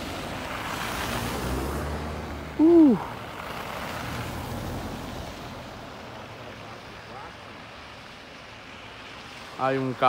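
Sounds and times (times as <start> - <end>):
tyres hissing through wet snow: 0.0 - 10.0.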